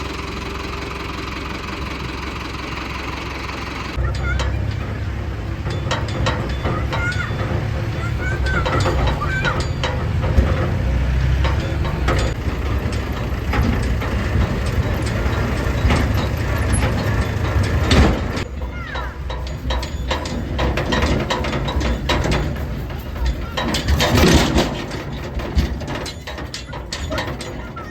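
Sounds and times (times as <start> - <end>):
harvester mechanism clattering: 0.0 - 27.9
tractor diesel engine running: 0.0 - 27.9.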